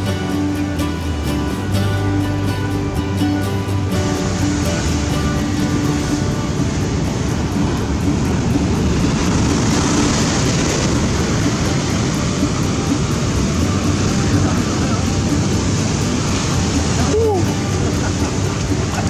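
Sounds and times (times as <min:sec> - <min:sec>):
surf breaking on rocks: 0:00.0 - 0:19.0
wind rumble on microphone: 0:00.0 - 0:19.0.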